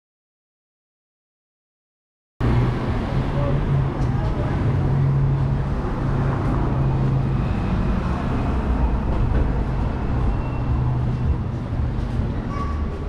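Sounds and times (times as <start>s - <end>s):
road traffic rumble: 2.4s - 13.0s
vehicle engine humming: 2.4s - 13.0s.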